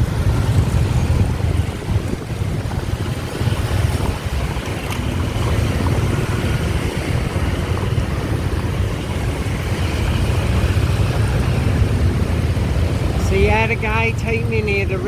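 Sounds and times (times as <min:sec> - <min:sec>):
motorbike engine rumble: 0:00.0 - 0:15.0
wind buffeting microphone: 0:00.0 - 0:15.0.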